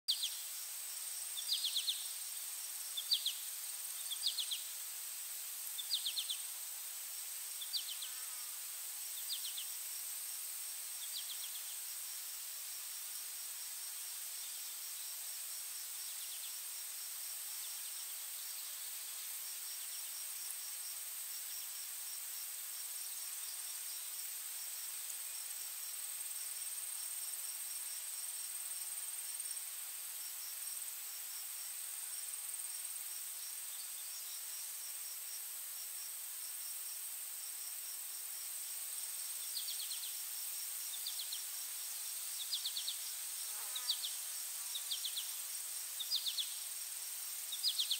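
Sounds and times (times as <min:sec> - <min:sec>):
insects trilling: 0:00.1 - 0:47.9
pulsing insect chirp: 0:05.6 - 0:47.9.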